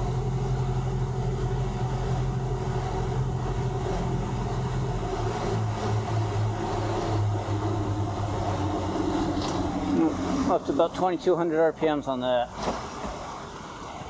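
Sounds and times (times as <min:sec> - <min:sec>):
outboard engines running: 0:00.0 - 0:14.0
wake water rushing: 0:00.0 - 0:14.0.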